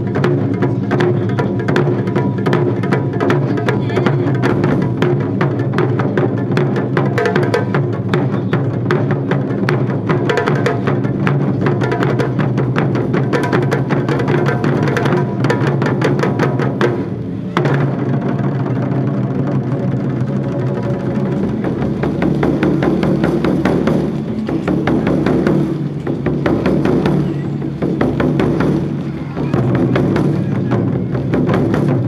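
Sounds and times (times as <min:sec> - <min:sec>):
taiko drums ensemble: 0:00.0 - 0:32.0.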